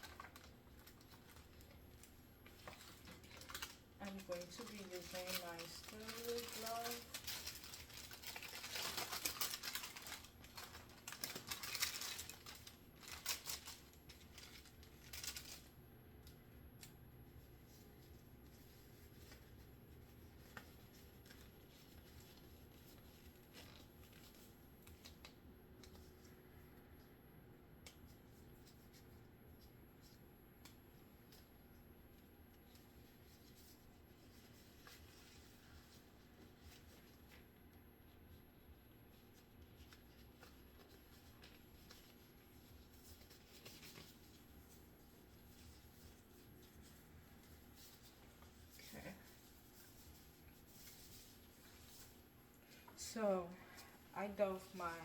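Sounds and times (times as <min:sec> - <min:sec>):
paper wrapper handled: 0:00.0 - 0:26.4, 0:32.2 - 0:53.0
sterile gloves rustling: 0:00.0 - 0:27.2, 0:27.8 - 0:55.0.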